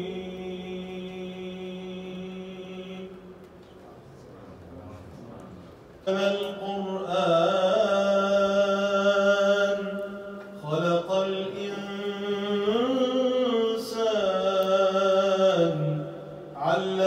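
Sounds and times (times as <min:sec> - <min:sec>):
man reciting melodically: 0:00.0 - 0:03.6, 0:06.0 - 0:17.0.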